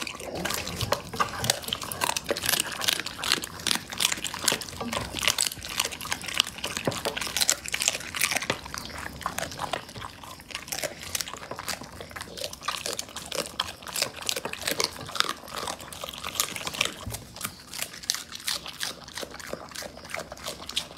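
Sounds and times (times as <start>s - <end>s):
dog chewing meat and bone: 0.0s - 20.9s.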